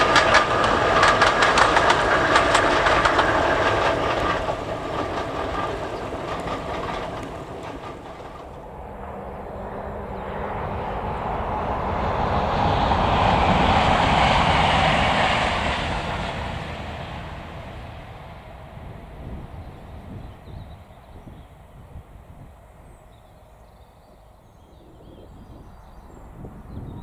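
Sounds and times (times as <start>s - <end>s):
diesel locomotive engine running: 0.0s - 27.0s
passing train rushing: 0.0s - 27.0s.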